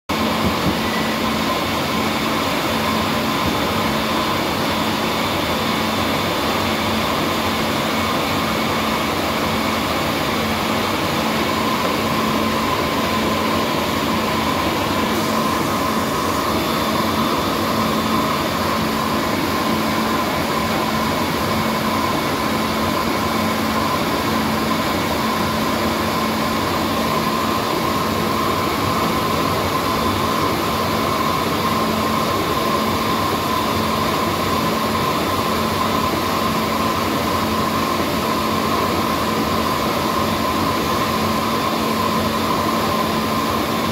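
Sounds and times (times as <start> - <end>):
machinery drone: 0.1 - 43.9.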